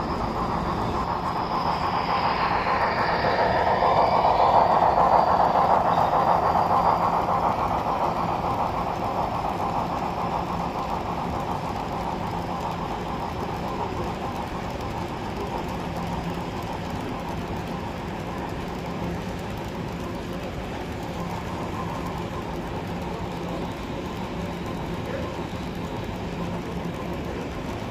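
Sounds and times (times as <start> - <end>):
model train wheels rumbling on rail: 0.0 - 27.9.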